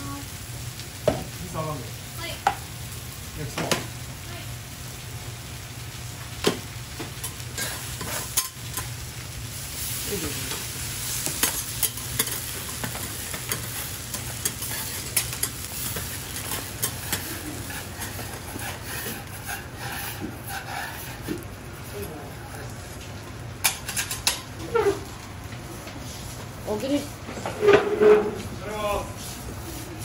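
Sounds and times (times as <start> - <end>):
food sizzling on a griddle: 0.0 - 30.0.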